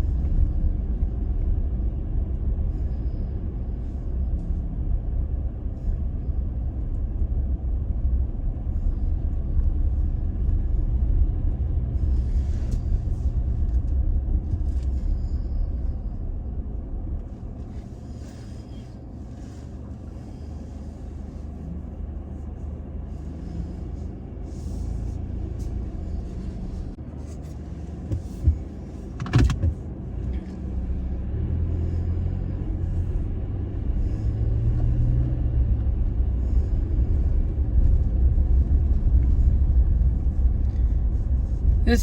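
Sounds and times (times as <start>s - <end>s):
pickup engine and tyres rumbling: 0.0s - 42.0s.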